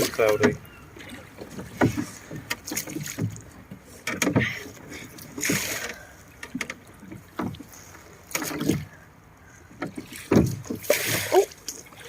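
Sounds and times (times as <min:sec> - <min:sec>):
paddles splashing in water: 0:00.0 - 0:12.0.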